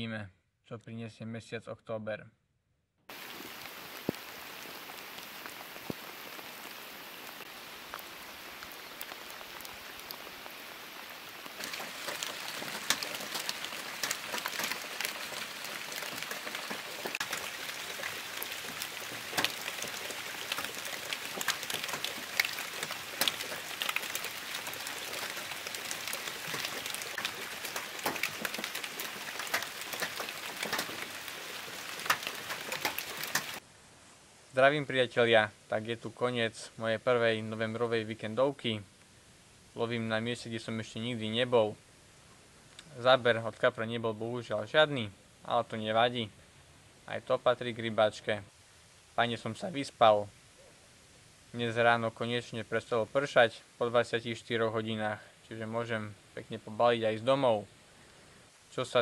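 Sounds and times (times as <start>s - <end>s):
steady rain falling: 3.1s - 59.0s.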